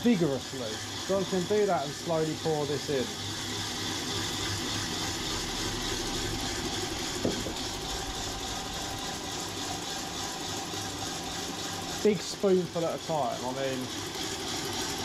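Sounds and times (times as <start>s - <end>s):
hand whisk beating eggs: 0.0s - 15.0s.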